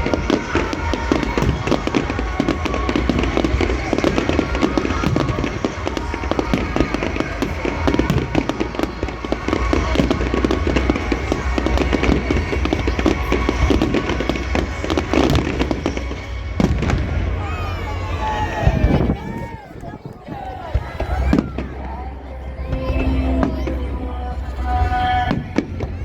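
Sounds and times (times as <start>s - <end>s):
music playing: 0.0s - 18.8s, 20.6s - 26.0s
fireworks bangs and crackling: 0.0s - 26.0s.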